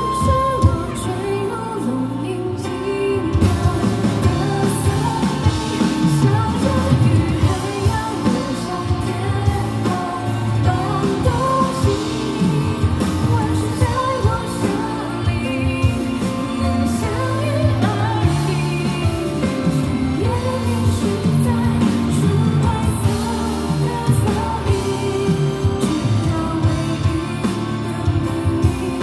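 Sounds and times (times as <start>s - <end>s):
live band playing: 0.0s - 29.0s
woman singing: 0.0s - 29.0s.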